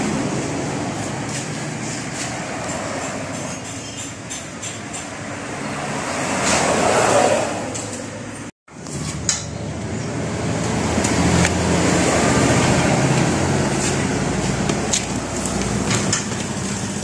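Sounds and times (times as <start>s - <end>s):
repair shop background noise: 0.0s - 17.0s.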